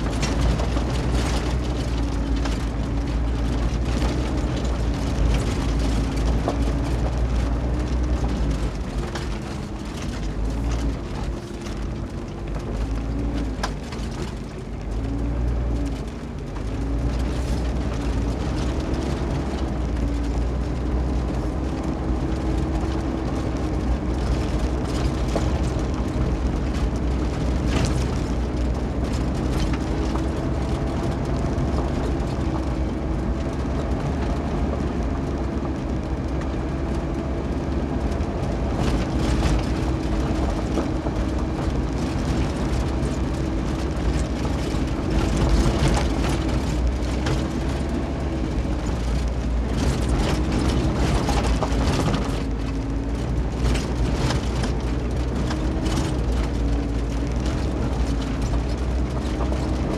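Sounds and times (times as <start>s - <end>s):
car engine hum: 0.0s - 59.9s
stones and body rattling: 0.0s - 59.9s
tyres rumbling on gravel: 0.0s - 59.9s.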